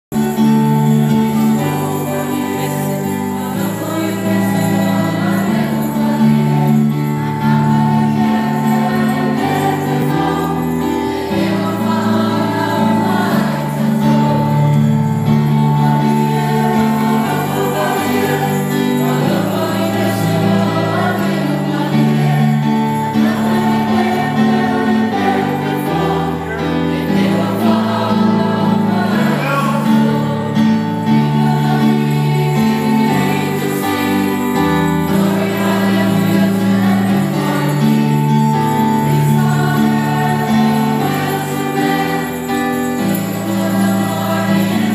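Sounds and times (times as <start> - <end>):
held chords: 0.1 - 44.9
sleigh bells shaking: 0.1 - 44.9
choir singing: 0.2 - 44.9.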